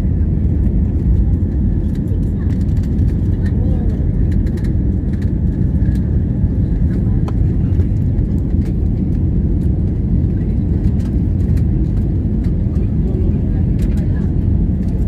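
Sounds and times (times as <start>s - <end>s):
airliner taking off: 0.0s - 15.0s.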